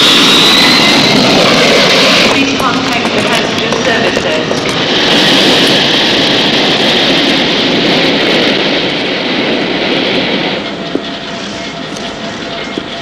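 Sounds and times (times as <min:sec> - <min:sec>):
jet engine roar with whine: 0:00.0 - 0:13.0.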